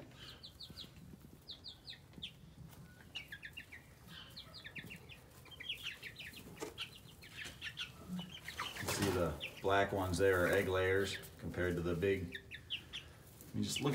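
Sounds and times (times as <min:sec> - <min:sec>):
chicks peeping: 0:00.0 - 0:13.9.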